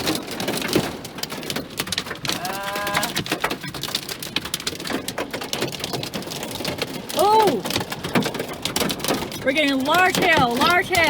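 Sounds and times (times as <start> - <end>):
hail and heavy rain pelting: 0.0 - 11.0.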